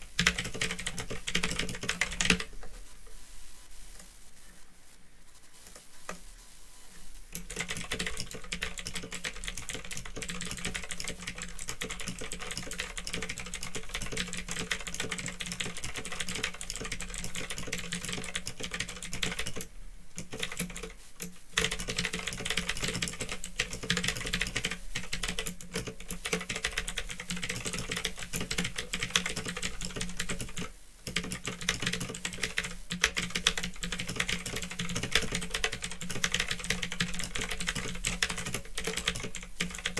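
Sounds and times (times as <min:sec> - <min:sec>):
clicky mechanical keyboard typing: 0:00.2 - 0:02.6, 0:07.3 - 0:39.9.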